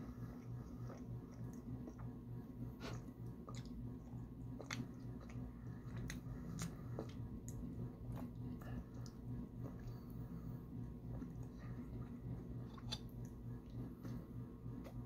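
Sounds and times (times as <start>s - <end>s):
person chewing wetly: 0.0s - 15.0s
steady low hum: 0.0s - 15.0s.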